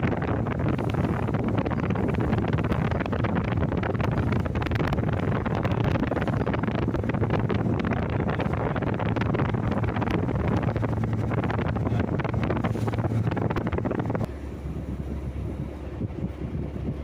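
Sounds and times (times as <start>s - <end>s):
sea waves: 0.0s - 17.0s
steady low hum: 0.0s - 17.0s
wind buffeting microphone: 0.0s - 17.0s.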